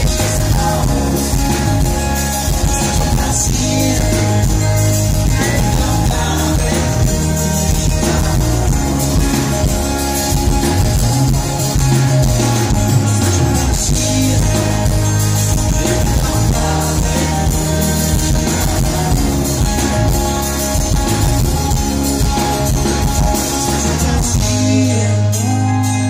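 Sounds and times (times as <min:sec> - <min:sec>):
live pop-rock band playing: 0:00.0 - 0:26.0.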